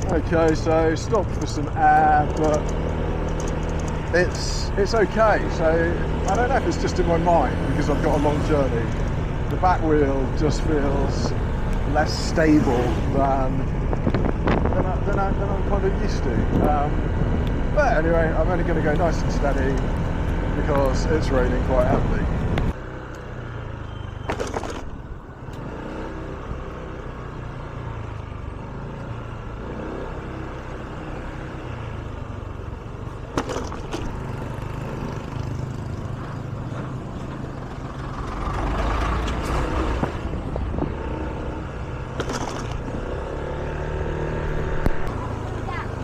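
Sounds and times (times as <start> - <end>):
scooter engine running: 0.0 - 21.9, 30.8 - 46.0
road noise: 0.0 - 46.0.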